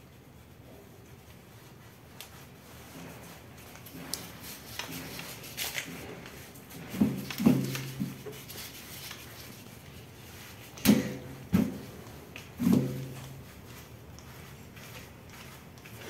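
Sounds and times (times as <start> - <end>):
duster brushing against ceiling: 0.0 - 16.0.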